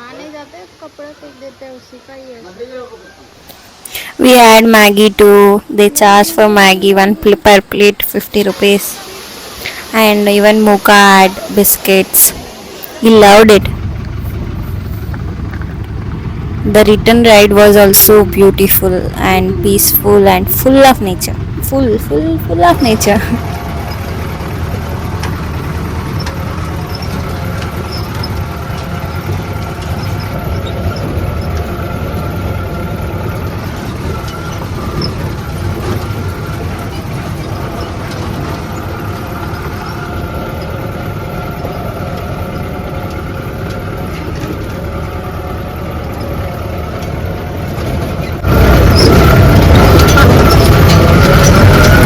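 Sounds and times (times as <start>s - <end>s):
road noise: 0.0s - 52.0s
car engine rumble: 3.2s - 52.0s.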